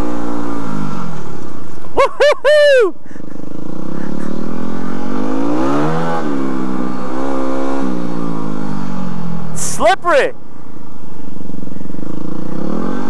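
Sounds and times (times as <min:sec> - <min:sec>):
motorcycle engine accelerating: 0:00.0 - 0:09.6, 0:10.4 - 0:13.0.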